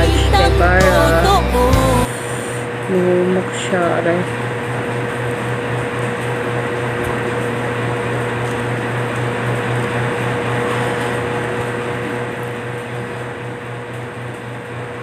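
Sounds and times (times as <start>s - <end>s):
appliance motor humming and hissing: 0.0s - 15.0s.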